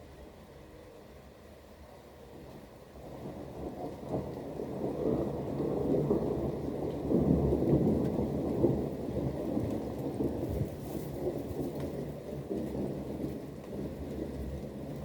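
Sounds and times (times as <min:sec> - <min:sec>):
rain falling: 0:00.0 - 0:15.0
thunder rumbling: 0:03.0 - 0:15.0.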